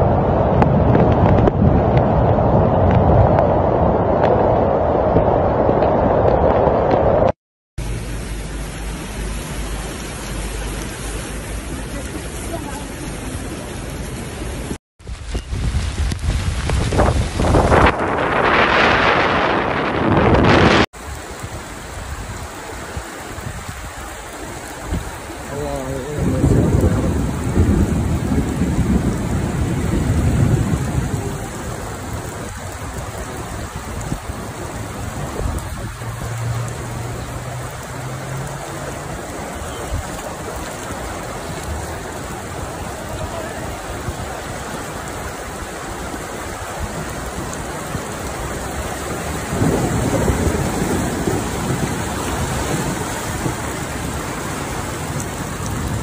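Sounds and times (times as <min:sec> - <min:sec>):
floodwater rushing: 0:00.0 - 0:56.0
low rumbling: 0:00.0 - 0:56.0.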